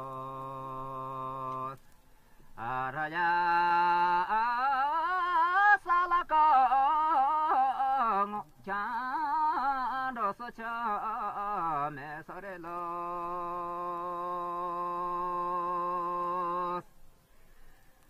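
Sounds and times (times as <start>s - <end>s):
person chanting in long notes: 0.0s - 1.8s, 2.6s - 16.8s.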